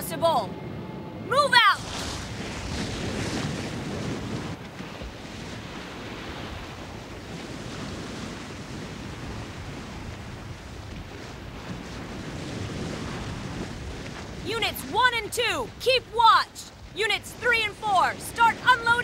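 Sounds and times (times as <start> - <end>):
sea water rushing: 0.0 - 19.0
wind: 0.0 - 19.0.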